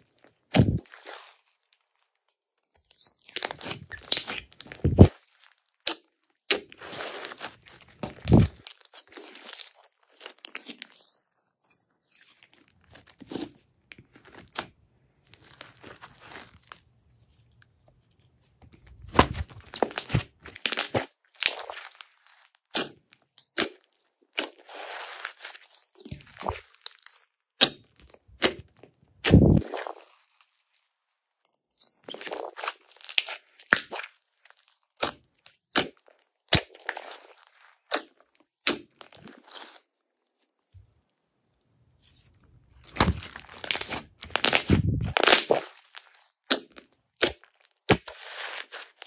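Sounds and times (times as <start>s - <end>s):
slime crackling and popping: 0.1s - 16.8s, 18.9s - 30.7s, 31.6s - 39.8s, 42.6s - 49.0s.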